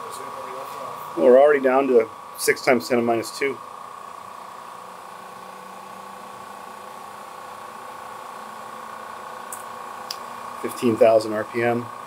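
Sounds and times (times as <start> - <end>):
low mechanical hum: 0.0 - 12.0
turbo pump high whine: 0.0 - 12.0.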